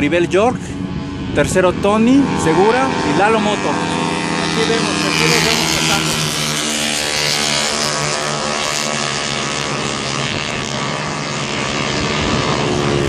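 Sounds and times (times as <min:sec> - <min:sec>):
racing motorcycle engines droning: 0:00.0 - 0:13.0.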